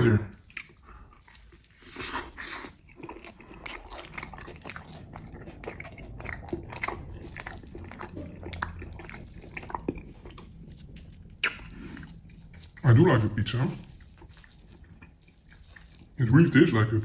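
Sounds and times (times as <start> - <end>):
crust crackling: 0.0 - 17.0
person chewing food: 0.0 - 17.0.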